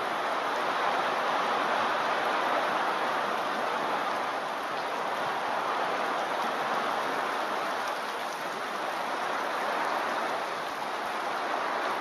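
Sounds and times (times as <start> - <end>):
heavy rain on paved road: 0.0 - 12.0.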